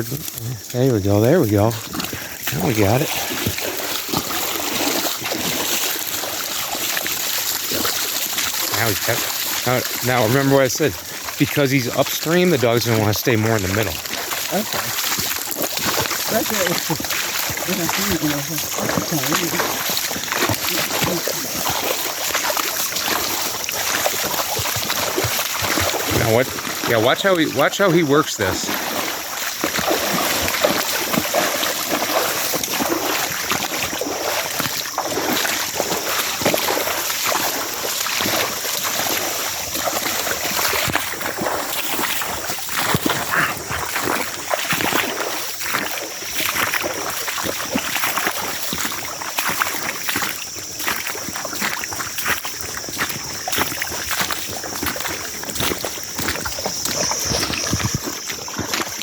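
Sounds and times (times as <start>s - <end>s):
creek water rushing: 0.0s - 59.0s
feet splashing through water: 0.0s - 59.0s.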